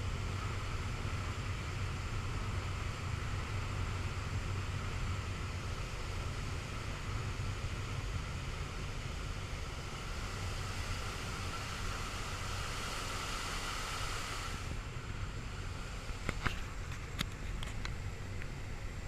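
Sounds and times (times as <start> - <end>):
turboprop engine drone: 0.0 - 19.0.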